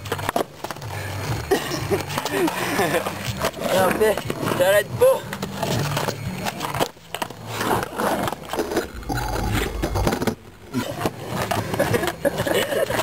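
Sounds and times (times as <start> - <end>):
skateboard rolling on asphalt: 0.0 - 13.0.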